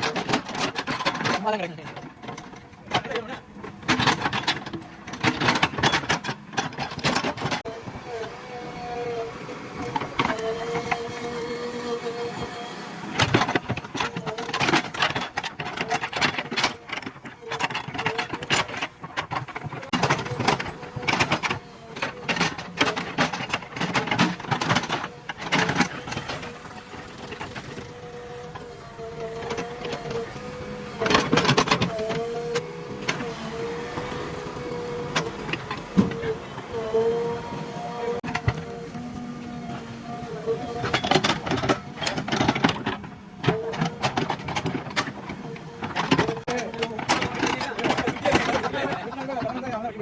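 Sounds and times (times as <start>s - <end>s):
backhoe bucket clattering and scraping: 0.0s - 50.0s
backhoe engine running: 0.0s - 50.0s.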